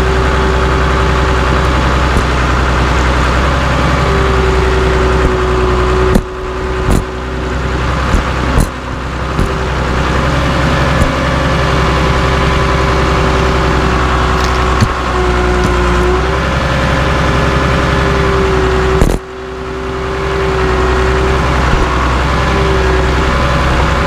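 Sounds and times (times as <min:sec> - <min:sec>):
bulldozer diesel engine whining: 0:00.0 - 0:24.0.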